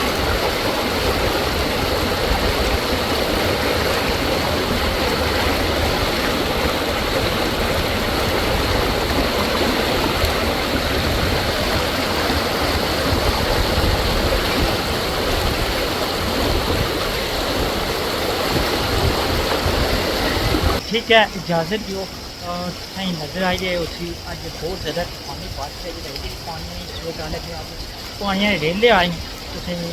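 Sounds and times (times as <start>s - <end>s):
storm water rushing: 0.0s - 29.9s.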